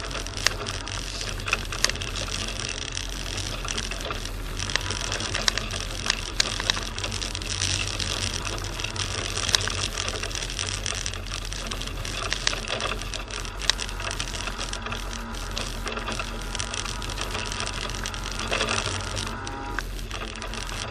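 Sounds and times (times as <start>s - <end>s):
car engine hum: 0.0s - 20.9s
fast rattle: 0.0s - 20.9s
sharp clicks: 0.0s - 20.9s.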